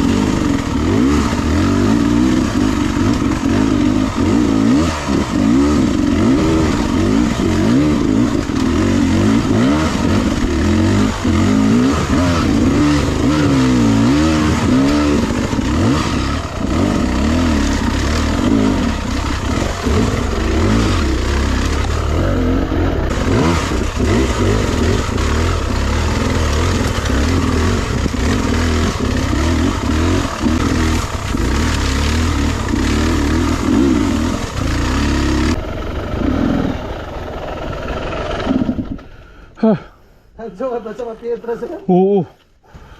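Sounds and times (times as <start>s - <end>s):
dirt bike engine revving: 0.0s - 39.1s.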